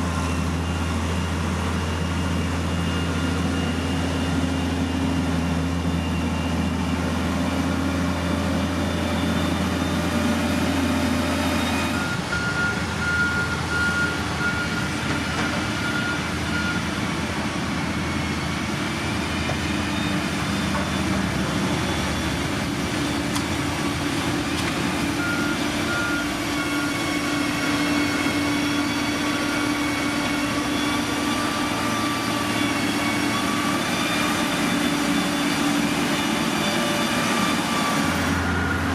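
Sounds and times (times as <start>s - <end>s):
heavy machinery engines running: 0.0s - 38.9s
reversing alarm beeping: 0.0s - 38.9s.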